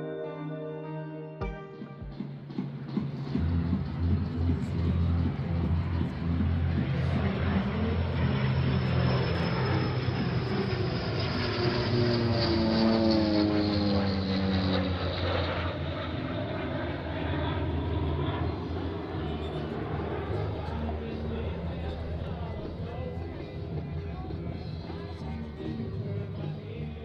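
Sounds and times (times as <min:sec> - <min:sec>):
propeller airplane flying past: 0:02.1 - 0:27.0.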